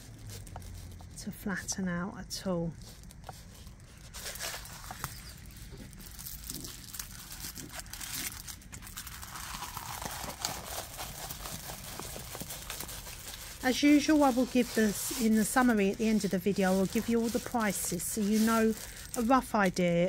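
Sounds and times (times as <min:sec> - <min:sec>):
canvas and film rustling: 0:00.0 - 0:20.0.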